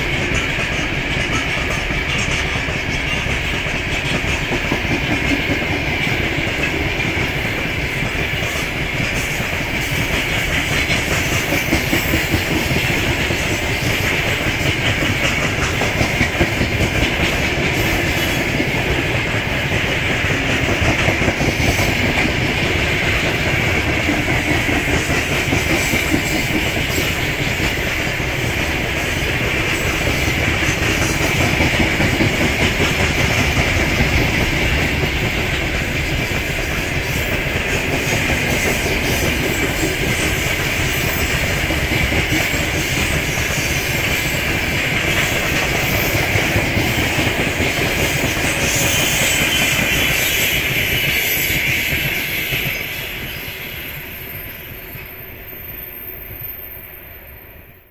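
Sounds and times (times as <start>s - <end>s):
train wheels rumbling: 0.0s - 57.4s.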